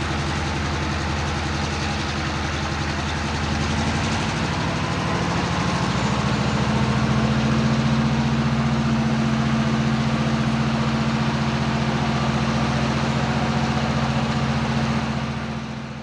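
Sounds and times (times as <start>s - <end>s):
diesel locomotive engine droning: 0.0s - 16.0s.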